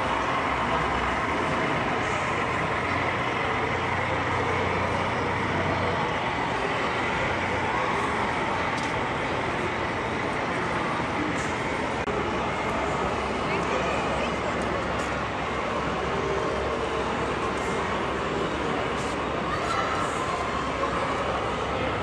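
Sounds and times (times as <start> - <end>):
crowd murmur: 0.0 - 22.0.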